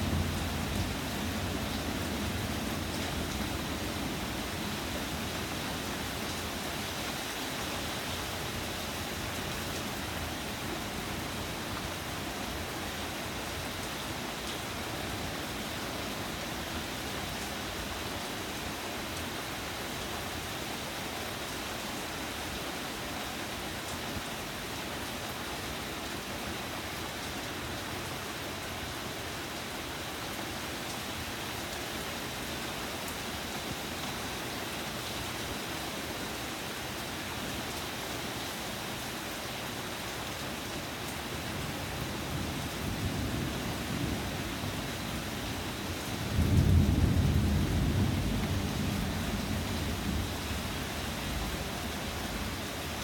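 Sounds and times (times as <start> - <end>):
rain pouring on foliage: 0.0 - 53.0.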